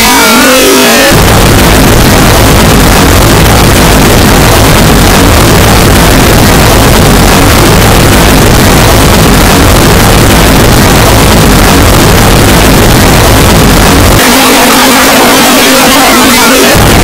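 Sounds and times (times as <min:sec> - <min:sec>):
harsh distorted noise music: 0:00.0 - 0:17.0.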